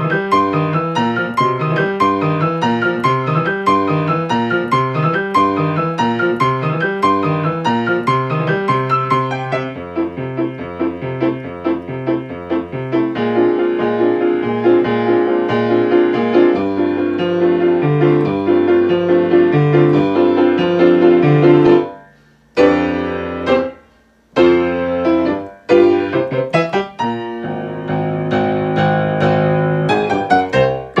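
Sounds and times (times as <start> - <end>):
piano playing: 0.0 - 31.0.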